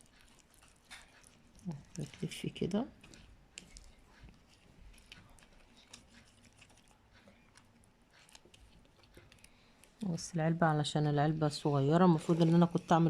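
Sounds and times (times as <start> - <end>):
spoon stirring thick paste: 0.0 - 13.0.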